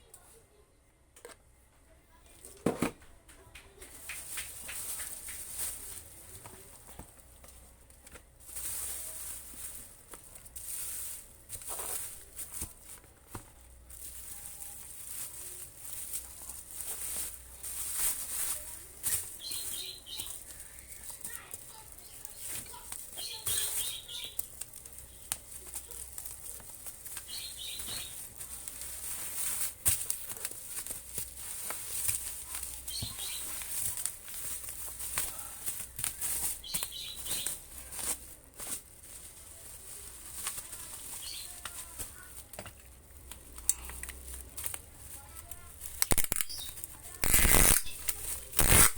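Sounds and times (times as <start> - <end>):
plastic wrapping crinkling: 3.4 - 48.9.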